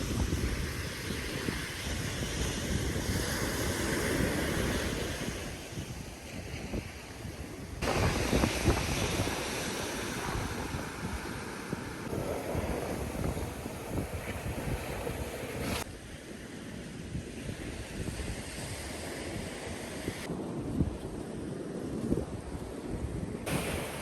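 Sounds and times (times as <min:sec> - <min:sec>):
wind buffeting microphone: 0:00.0 - 0:16.1, 0:16.8 - 0:24.0
ocean waves on beach: 0:00.0 - 0:20.7, 0:23.4 - 0:24.0.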